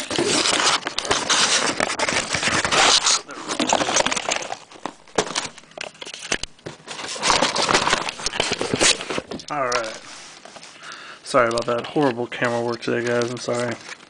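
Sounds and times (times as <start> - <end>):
cardboard packaging rustling: 0.0 - 14.0.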